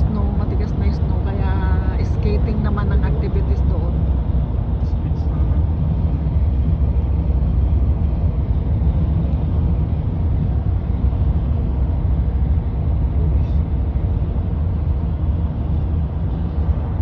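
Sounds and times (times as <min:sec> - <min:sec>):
car driving on highway: 0:00.0 - 0:17.0
road and tyre noise: 0:00.0 - 0:17.0.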